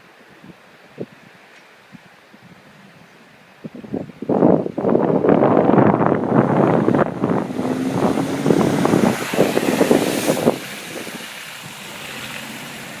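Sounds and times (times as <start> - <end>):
wind buffeting microphone: 0.3 - 13.0.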